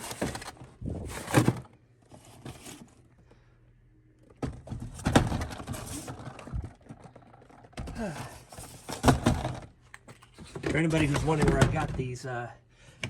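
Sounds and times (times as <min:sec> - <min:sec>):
rustling and clatter of handling: 0:00.0 - 0:03.4, 0:04.2 - 0:12.3.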